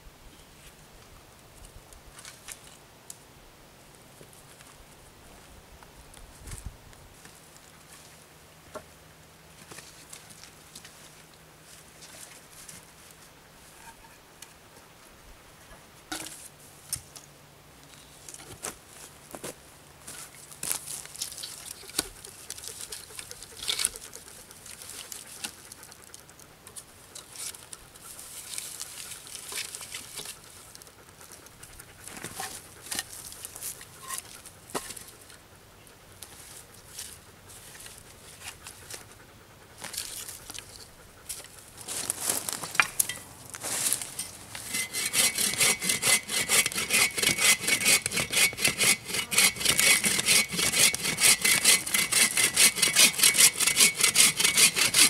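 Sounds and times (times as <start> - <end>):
rustling and scraping of debris: 1.6 - 3.2, 4.1 - 14.9, 15.6 - 55.0.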